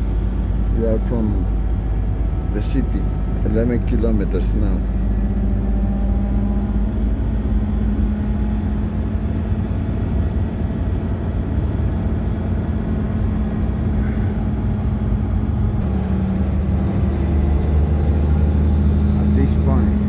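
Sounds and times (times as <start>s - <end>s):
bus engine rumble: 0.0s - 20.0s
road noise: 0.0s - 20.0s.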